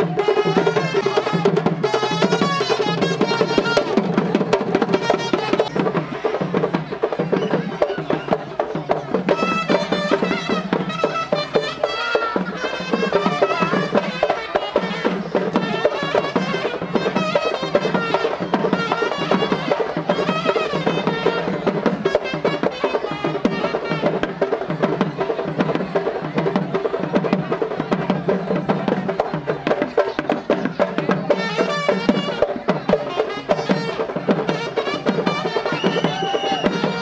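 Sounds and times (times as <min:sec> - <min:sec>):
continuous drumming: 0:00.0 - 0:37.0.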